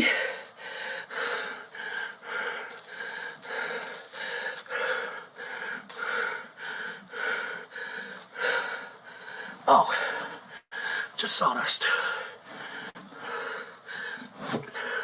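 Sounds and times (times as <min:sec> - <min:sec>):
man panting heavily: 0:00.0 - 0:11.2, 0:11.8 - 0:15.0.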